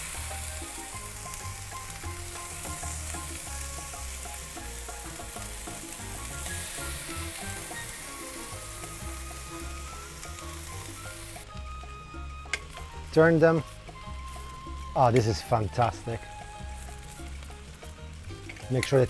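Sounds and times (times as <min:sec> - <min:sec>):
soft background music: 0:00.0 - 0:19.0
squid sizzling on grill: 0:00.0 - 0:19.0.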